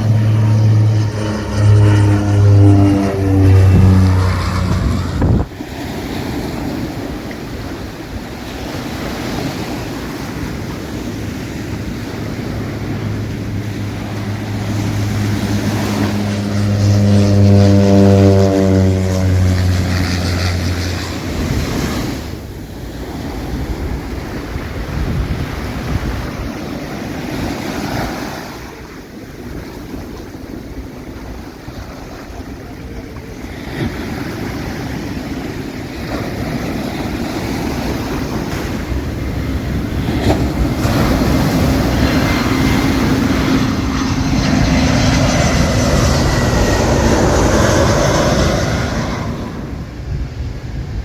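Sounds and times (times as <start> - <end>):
jet airliner engines landing: 0.0 - 51.0
wind on microphone: 0.0 - 51.0.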